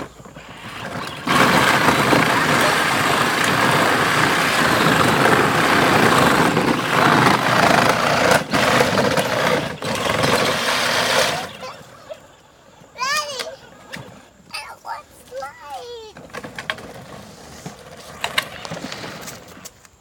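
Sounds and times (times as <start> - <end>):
ride-on toy quad grinding rumble: 0.0 - 19.7.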